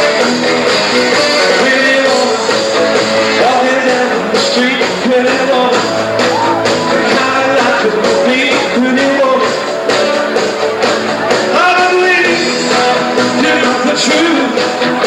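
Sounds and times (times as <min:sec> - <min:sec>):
live rock band playing: 0:00.0 - 0:15.0
man singing: 0:01.3 - 0:09.8, 0:11.3 - 0:15.0.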